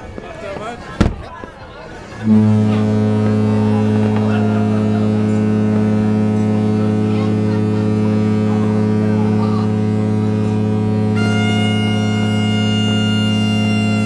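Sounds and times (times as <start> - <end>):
deep ship's horn blast: 2.2 - 14.0
higher-pitched horn tone: 2.2 - 14.0.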